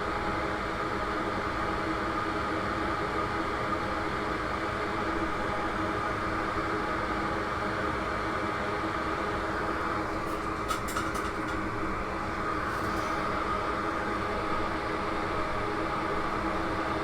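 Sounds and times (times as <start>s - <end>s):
fan-driven machine whirring: 0.0s - 17.0s.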